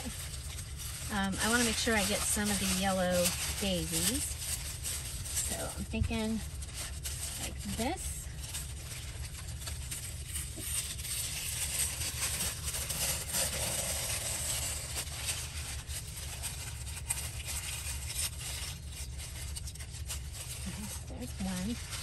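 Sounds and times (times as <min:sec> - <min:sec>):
low electrical hum and hiss: 0:00.0 - 0:22.0
paper rustling: 0:00.0 - 0:22.0.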